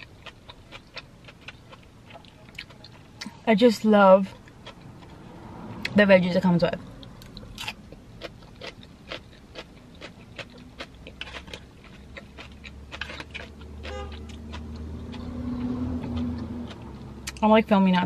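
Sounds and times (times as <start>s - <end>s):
chewing: 0.0s - 3.4s, 4.3s - 5.2s, 7.0s - 17.4s.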